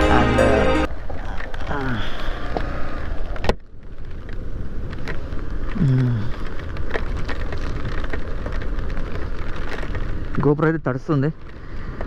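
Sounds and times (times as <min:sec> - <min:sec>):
tyre and rain noise: 0:00.0 - 0:12.0.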